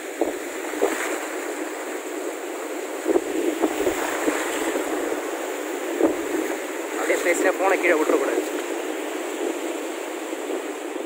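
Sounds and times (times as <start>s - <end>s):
sea surf washing in: 0.0s - 11.0s
wind buffeting microphone: 0.0s - 11.0s.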